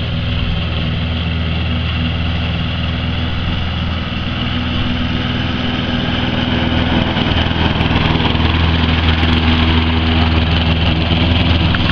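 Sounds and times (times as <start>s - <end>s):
lawn mower engine running: 0.0s - 11.9s.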